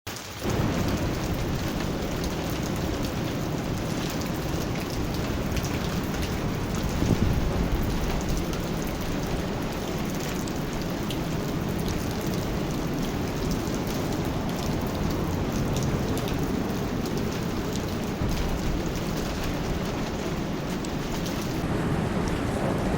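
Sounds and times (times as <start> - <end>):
rain falling on a lake: 0.1 - 22.9.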